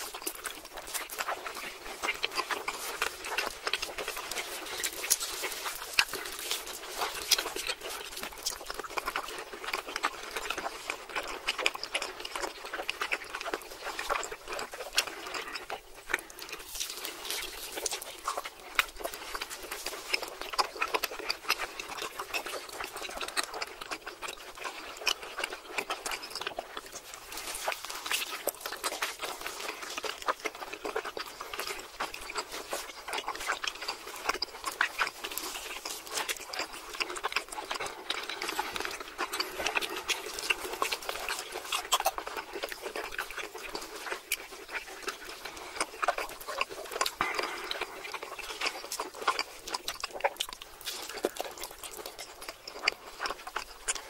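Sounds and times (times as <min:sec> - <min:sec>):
chewing and smacking mouth sounds: 0:00.0 - 0:54.0.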